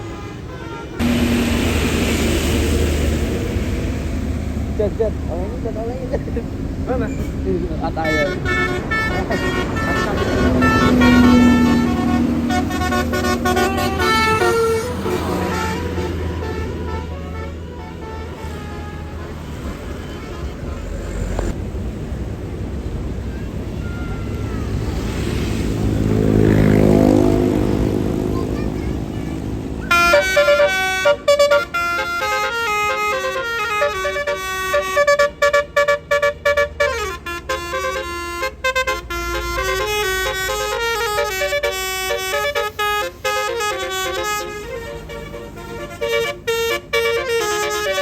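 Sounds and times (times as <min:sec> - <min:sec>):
bus engine passing: 0:00.0 - 0:48.0.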